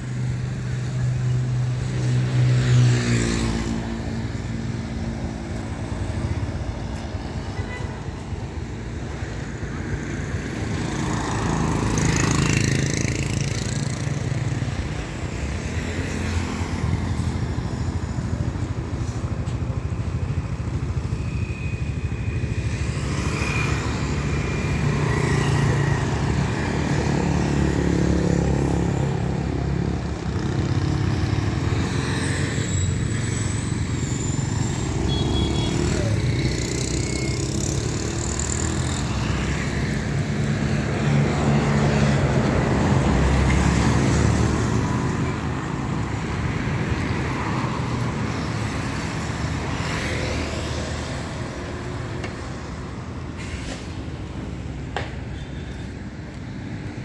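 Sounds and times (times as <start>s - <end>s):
cars and motorbikes passing: 0.0s - 57.0s
engine hum and road noise: 0.0s - 57.0s.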